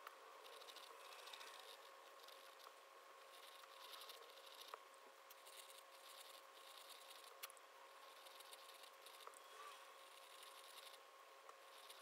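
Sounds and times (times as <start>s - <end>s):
metal nib pen scratching paper: 0.4s - 11.0s, 11.6s - 12.0s.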